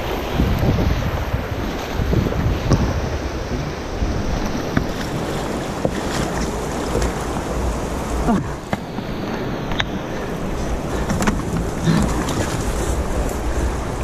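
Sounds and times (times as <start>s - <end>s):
fast river water rushing: 0.0s - 14.0s
wind buffeting microphone: 0.0s - 14.0s.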